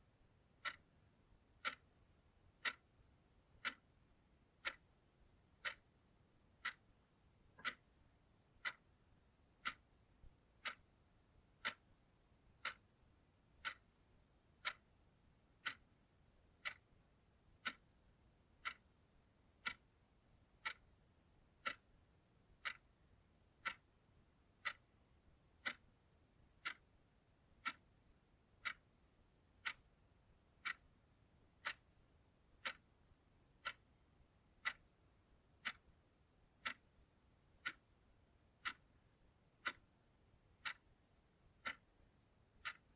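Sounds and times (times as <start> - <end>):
clock ticking: 0.1 - 42.9.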